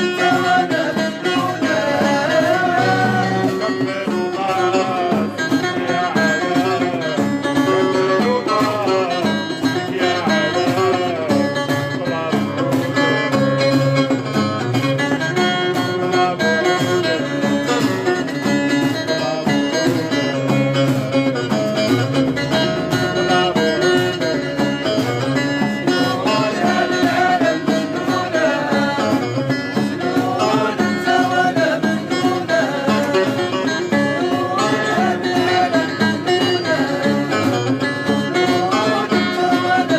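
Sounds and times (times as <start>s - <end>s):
plucked string instrument melody: 0.0s - 39.9s.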